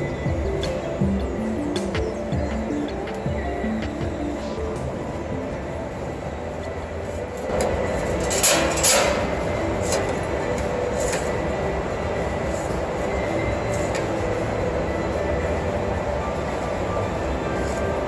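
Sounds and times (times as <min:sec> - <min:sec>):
rumbling machinery: 0:00.0 - 0:18.0.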